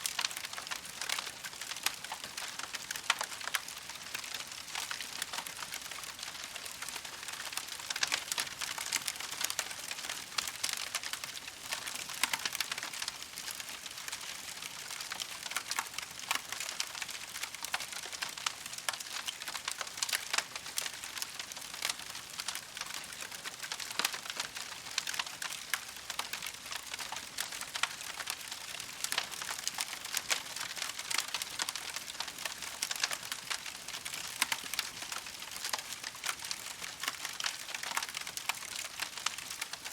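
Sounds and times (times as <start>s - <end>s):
campfire crackling and snapping: 0.0s - 39.9s.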